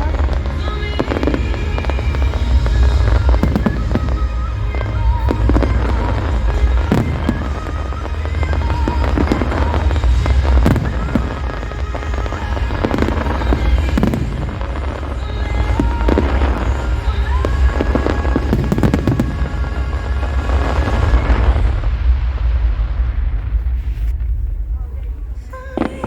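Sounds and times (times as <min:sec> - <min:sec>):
loud music: 0:00.0 - 0:23.2
continuous low rumble: 0:00.0 - 0:26.0
fireworks bursting and crackling: 0:00.0 - 0:26.0.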